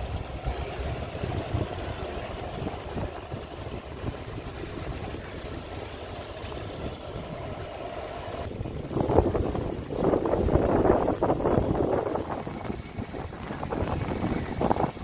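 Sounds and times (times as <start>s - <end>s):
wind gusts on microphone: 0.0s - 5.6s, 8.4s - 15.0s
motorboat engine running: 0.0s - 15.0s.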